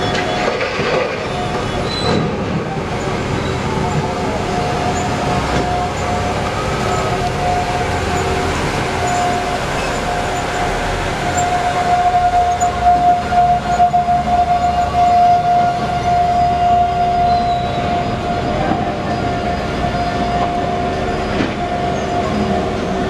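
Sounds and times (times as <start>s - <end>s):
heavy machine engine rumble: 0.0s - 23.0s.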